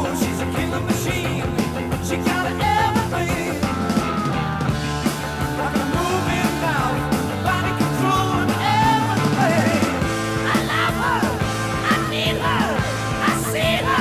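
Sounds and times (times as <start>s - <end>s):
person singing: 0.0s - 4.0s, 5.5s - 14.0s
rock and roll music: 0.0s - 14.0s.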